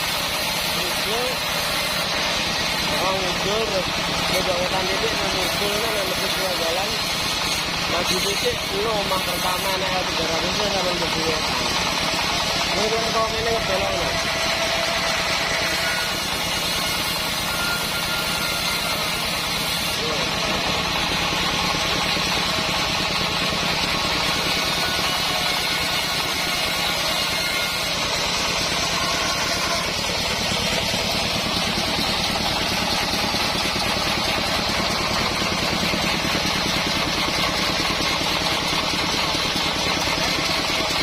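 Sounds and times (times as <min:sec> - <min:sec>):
sawmill engine beating: 0:00.0 - 0:41.0.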